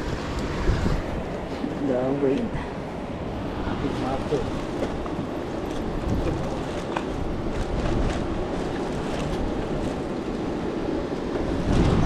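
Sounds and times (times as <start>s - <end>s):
ocean surf: 0.0s - 12.0s
wind noise on microphone: 0.0s - 12.0s.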